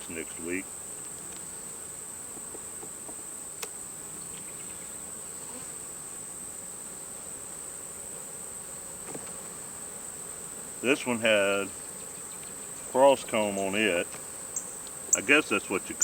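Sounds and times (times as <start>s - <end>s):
bees buzzing: 0.0s - 16.0s
high-pitched insect whine: 0.0s - 16.0s.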